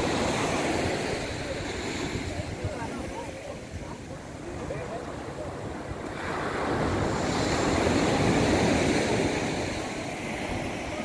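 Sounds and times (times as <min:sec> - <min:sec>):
wave breaking on beach: 0:00.0 - 0:11.0.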